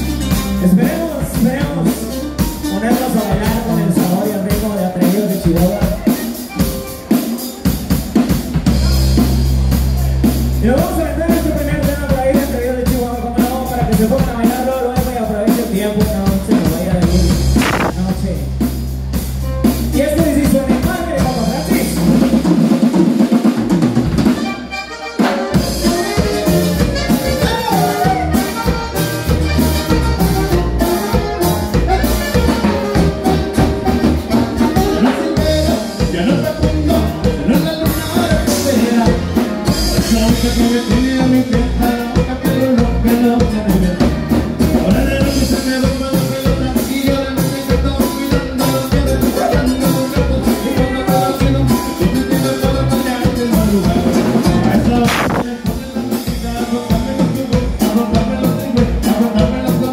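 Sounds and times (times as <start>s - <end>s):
live band playing upbeat music: 0.0s - 59.9s.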